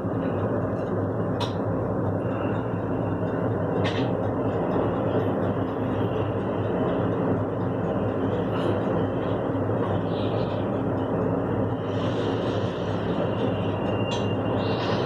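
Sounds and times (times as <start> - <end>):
wind buffeting air conditioner: 0.0 - 15.0.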